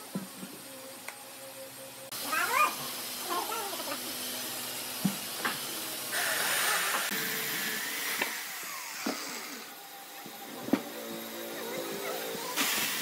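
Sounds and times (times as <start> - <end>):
electric chainsaw cutting log: 0.0 - 13.0.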